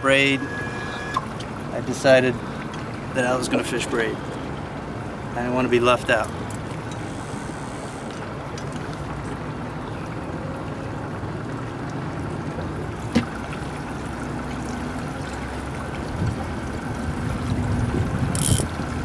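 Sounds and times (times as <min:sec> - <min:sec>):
boat engine rumble: 0:00.0 - 0:19.0.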